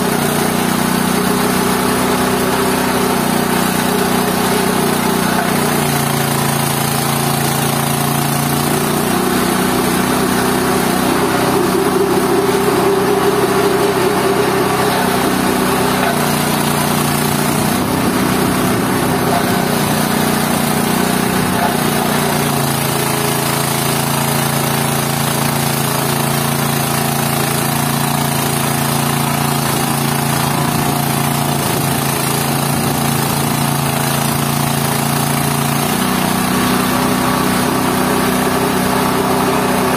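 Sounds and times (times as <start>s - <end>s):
pulper machine grinding waste: 0.0s - 39.9s.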